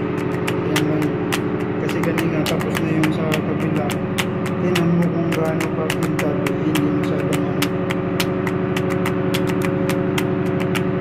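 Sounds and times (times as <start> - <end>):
rapid uneven ticking: 0.0 - 11.0
ship machinery humming: 0.0 - 11.0.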